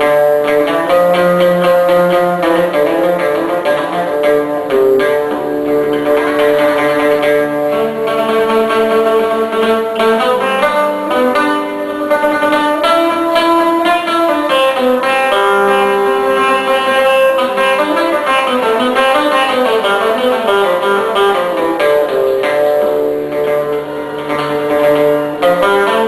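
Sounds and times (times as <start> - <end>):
plucked string instrument melody: 0.0 - 26.0.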